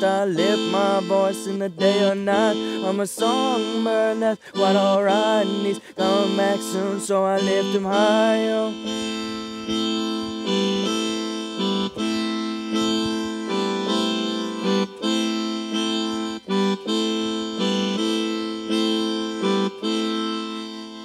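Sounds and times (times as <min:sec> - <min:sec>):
electronic keyboard chords: 0:00.0 - 0:21.0.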